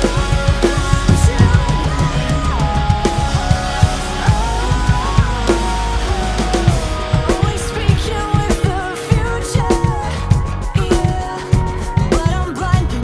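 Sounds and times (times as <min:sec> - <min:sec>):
drum kit played hard: 0:00.0 - 0:12.7
rock band recording: 0:00.0 - 0:12.7.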